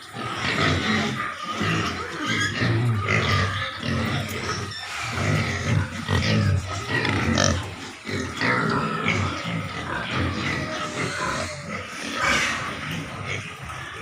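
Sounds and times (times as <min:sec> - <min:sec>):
piglets grunting: 0:00.0 - 0:14.0.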